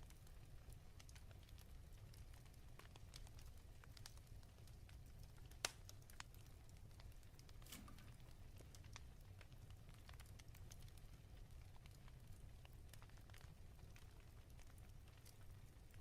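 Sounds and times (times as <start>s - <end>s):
fireplace crackling: 0.0s - 16.0s.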